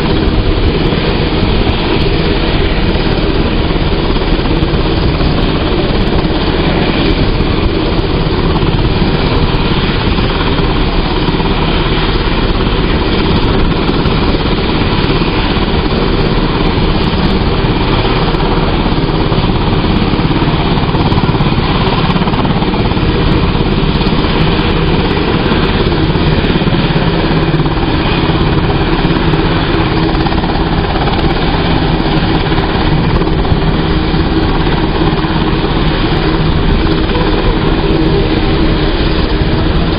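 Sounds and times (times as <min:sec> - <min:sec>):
helicopter engines and rotor running: 0:00.0 - 0:39.9.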